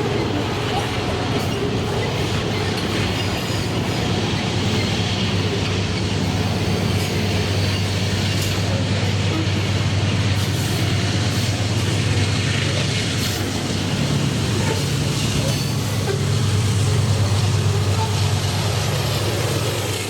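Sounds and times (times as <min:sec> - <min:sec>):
freight train rolling on rails: 0:00.0 - 0:20.0.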